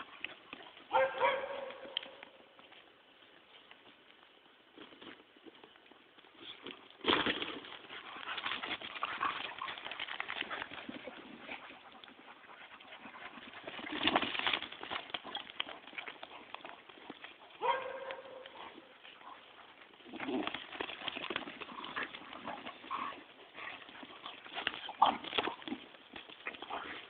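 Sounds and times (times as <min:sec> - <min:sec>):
hoof clatter and scrabbling: 0:00.0 - 0:03.8, 0:04.7 - 0:27.0.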